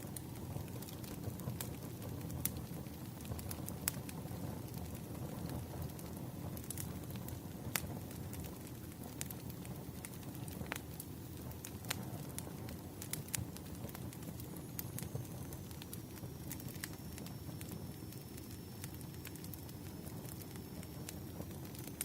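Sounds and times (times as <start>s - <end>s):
firewood crackling and popping: 0.0s - 22.0s
low rush of flames: 0.0s - 22.0s.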